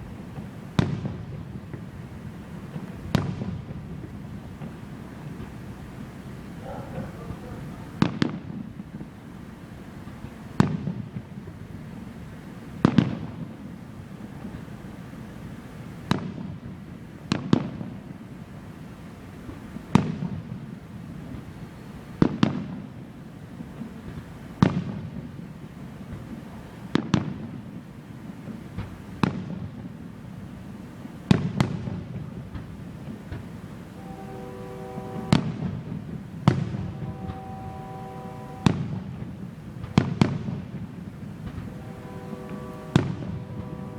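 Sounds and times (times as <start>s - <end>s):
fireworks bursting with booms: 0.0s - 9.4s, 10.0s - 18.8s, 19.4s - 43.9s.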